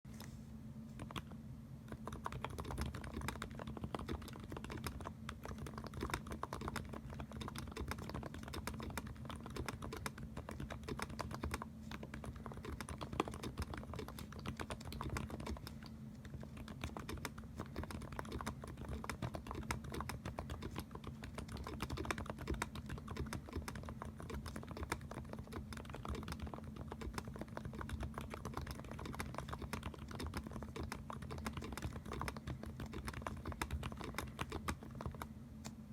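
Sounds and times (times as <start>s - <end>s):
faint low hum: 0.1s - 35.9s
mechanical keyboard typing: 1.0s - 1.3s, 1.9s - 35.3s.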